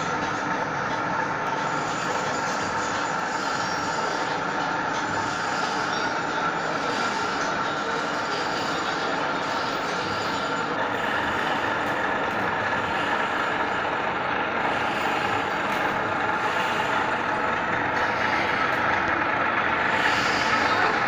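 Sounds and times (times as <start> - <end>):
milling machine hum and whine: 0.0 - 21.0.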